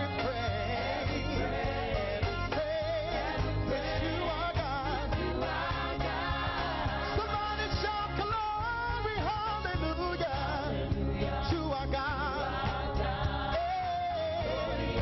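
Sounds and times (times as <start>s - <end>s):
band with bass beat: 0.0s - 15.0s
voices singing gospel song: 0.0s - 15.0s.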